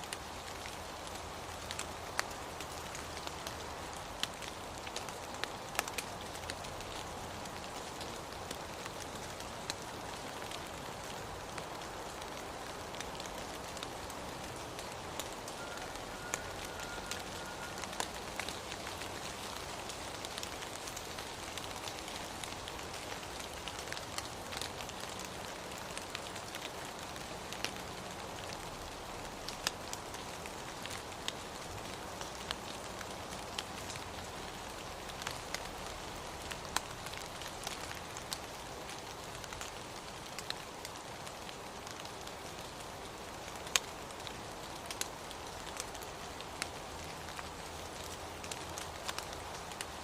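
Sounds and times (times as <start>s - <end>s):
steady rain hiss: 0.0s - 50.0s.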